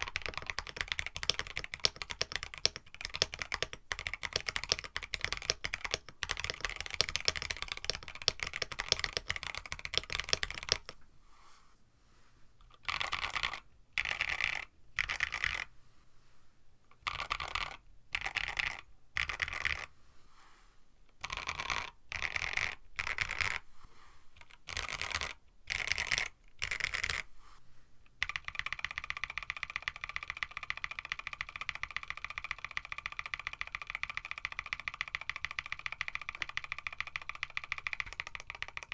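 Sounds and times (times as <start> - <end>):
mechanical keyboard typing: 0.0 - 11.0, 12.7 - 15.7, 17.0 - 19.9, 21.2 - 23.6, 24.4 - 27.2, 28.2 - 38.9.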